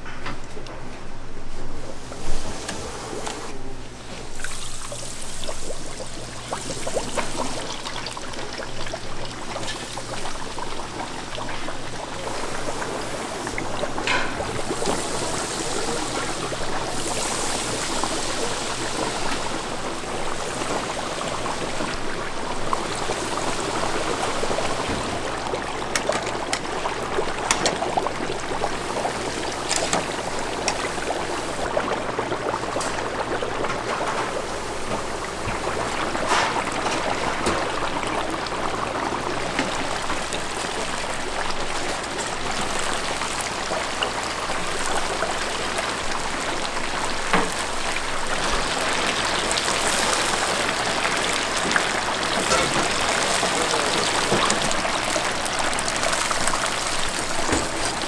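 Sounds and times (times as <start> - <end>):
chicken sizzling in hot oil: 4.3 - 33.7, 34.4 - 58.0.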